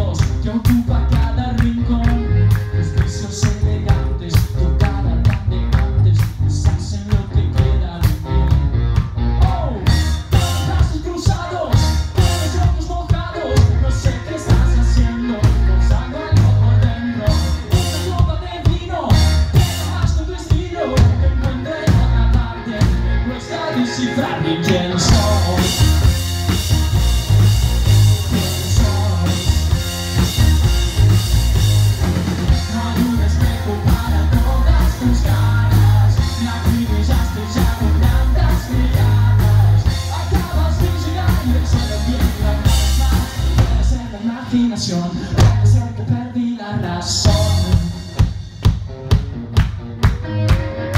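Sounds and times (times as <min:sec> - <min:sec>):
male lead vocal: 0:00.0 - 0:08.7, 0:09.3 - 0:30.7, 0:31.6 - 0:48.5
drum kit: 0:00.0 - 0:46.0, 0:47.0 - 0:50.9
bass guitar: 0:00.0 - 0:50.9
electric guitars: 0:00.0 - 0:50.9.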